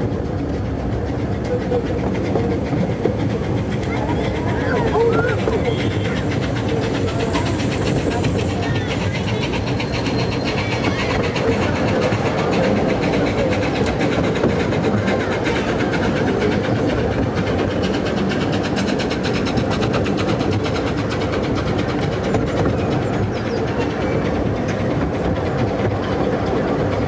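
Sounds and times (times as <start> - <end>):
train wheels clicking on track: 0.0 - 27.0.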